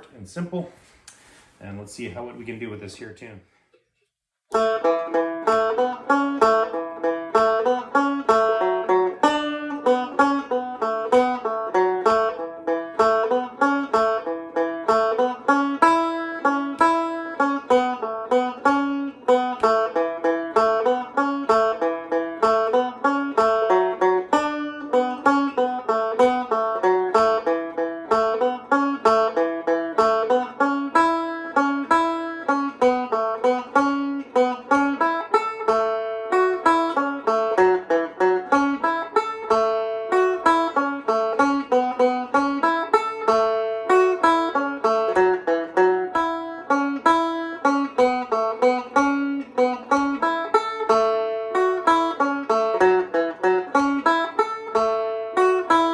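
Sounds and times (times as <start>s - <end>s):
solo banjo playing a jig: 4.5s - 55.9s.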